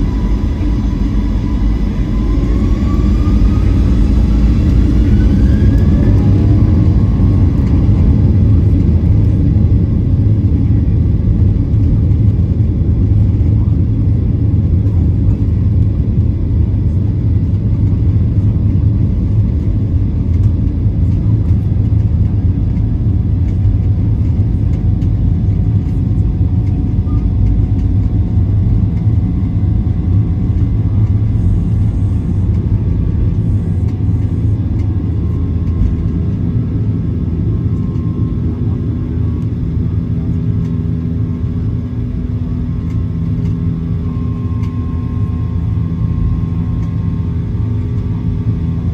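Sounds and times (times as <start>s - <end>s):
jet engines at takeoff power: 0.0s - 48.9s
wheels rumbling on runway: 0.0s - 48.9s.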